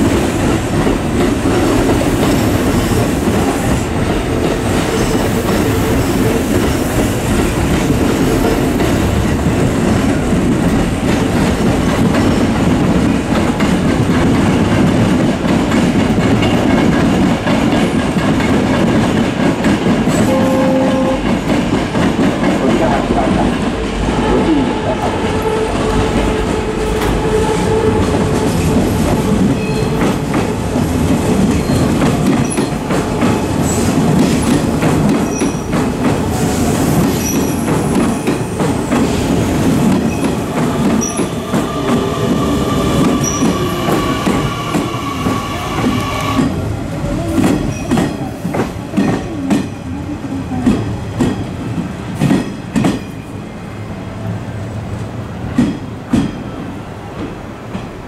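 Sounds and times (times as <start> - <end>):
train wheels clacking over rail joints: 0.0 - 24.0, 25.8 - 46.6, 47.2 - 49.8, 50.6 - 53.2.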